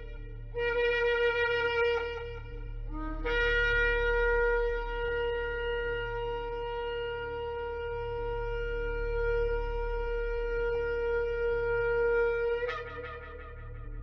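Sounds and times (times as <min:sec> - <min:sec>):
shofar long note: 0:00.0 - 0:14.0.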